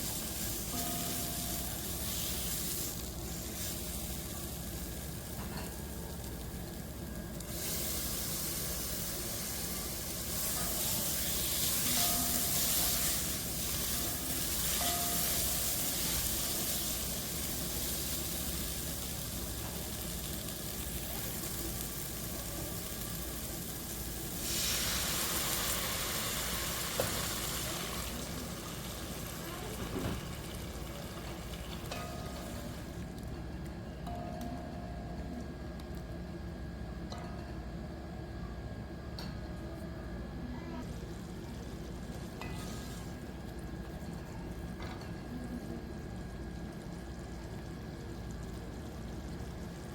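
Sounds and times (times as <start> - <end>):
food frying in hot oil: 0.0 - 33.1, 40.8 - 49.9.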